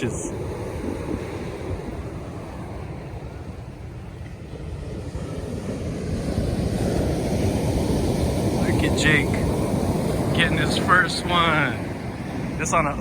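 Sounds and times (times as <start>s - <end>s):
ocean surf: 0.0s - 13.0s
wind rumbling on microphone: 0.0s - 13.0s.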